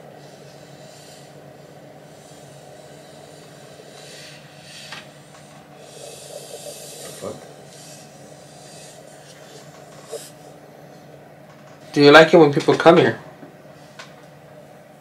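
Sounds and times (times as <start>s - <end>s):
room tone hiss and hum: 0.0s - 15.0s.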